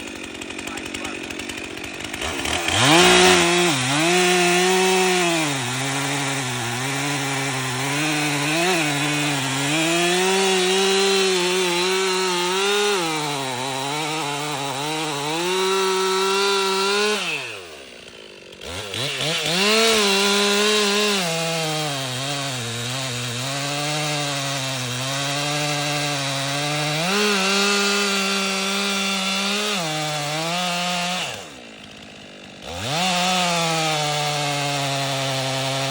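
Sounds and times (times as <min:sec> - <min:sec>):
chainsaw cutting wood: 0:00.0 - 0:35.9.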